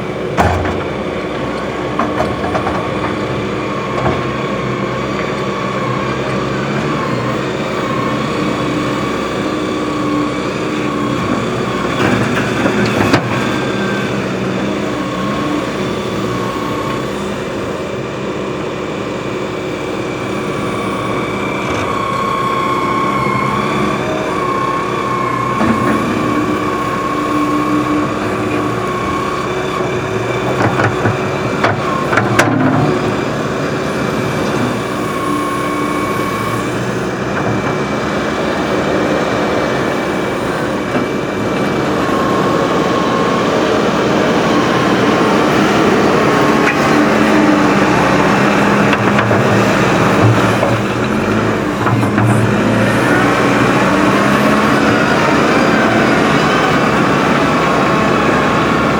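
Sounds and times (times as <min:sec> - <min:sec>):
diesel engines under load: 0:00.0 - 0:58.9.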